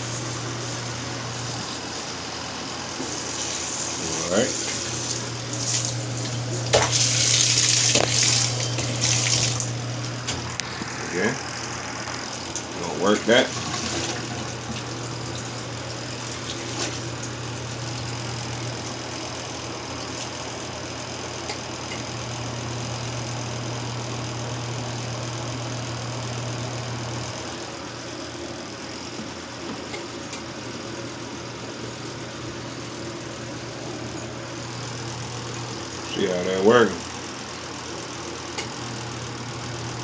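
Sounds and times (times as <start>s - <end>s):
washing machine motor humming: 0.0s - 40.0s.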